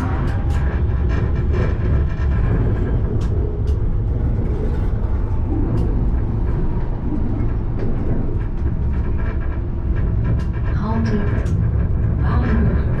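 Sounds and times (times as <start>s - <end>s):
tram rumbling on track: 0.0s - 13.0s.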